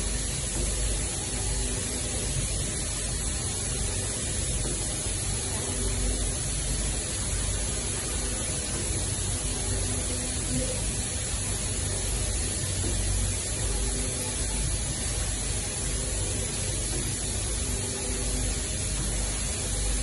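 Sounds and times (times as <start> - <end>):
printing machine rushing noise: 0.0 - 20.0.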